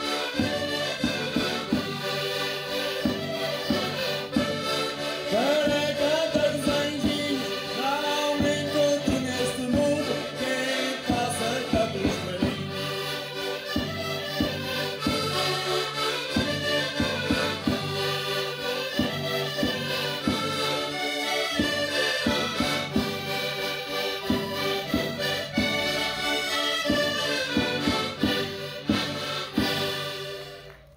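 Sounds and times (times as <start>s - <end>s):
button accordions playing folk tune: 0.0s - 30.9s.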